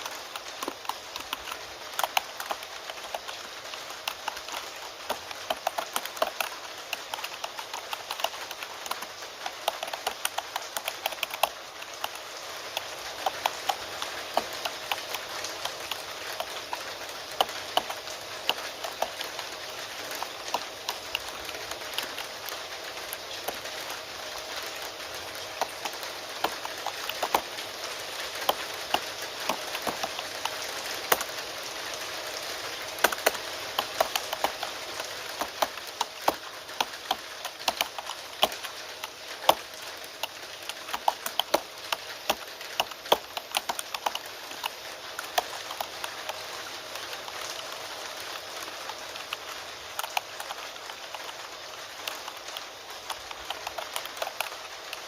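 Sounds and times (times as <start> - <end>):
keyboard typing clicks: 0.0 - 19.4, 25.5 - 27.6, 28.2 - 31.4, 33.0 - 55.0
rain hiss: 0.0 - 55.0.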